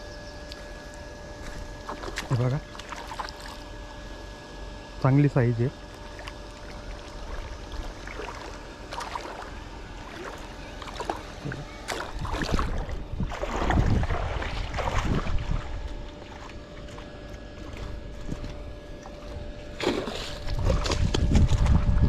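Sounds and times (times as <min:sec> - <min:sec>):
water splashing and sloshing: 0:00.5 - 0:04.2, 0:05.8 - 0:22.0.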